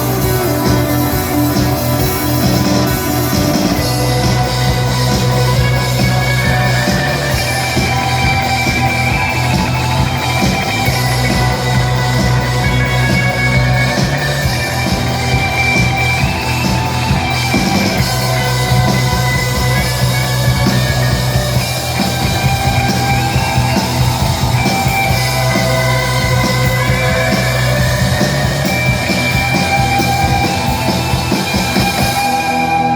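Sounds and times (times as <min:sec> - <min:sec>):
instrumental rock music: 0:00.0 - 0:32.9
low bass line: 0:00.0 - 0:32.9.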